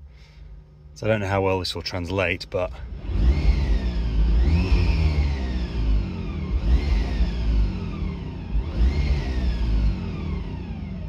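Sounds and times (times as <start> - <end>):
low road rumble: 0.0 - 11.0.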